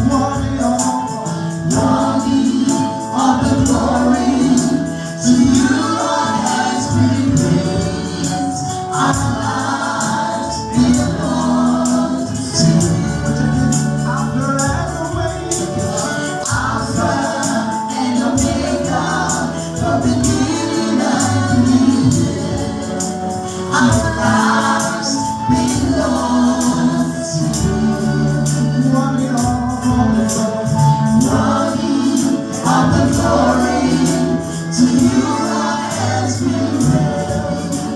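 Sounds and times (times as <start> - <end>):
gospel choir singing: 0.0 - 37.9
tambourine beat: 0.0 - 37.9.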